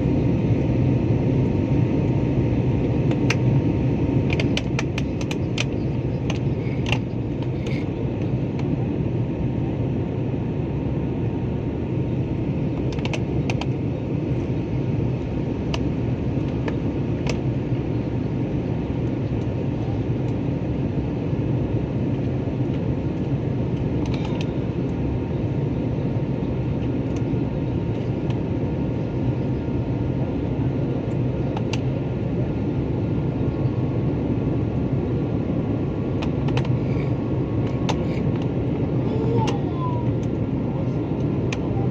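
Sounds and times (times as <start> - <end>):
airplane cabin roar: 0.0 - 41.9
faint steady hum: 0.0 - 41.9.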